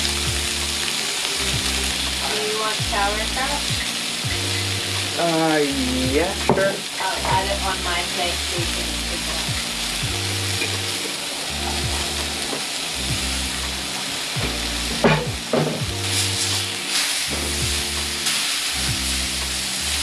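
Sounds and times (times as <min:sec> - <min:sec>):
background music with bass: 0:00.0 - 0:20.0
scallops sizzling in frying pan: 0:00.0 - 0:20.0.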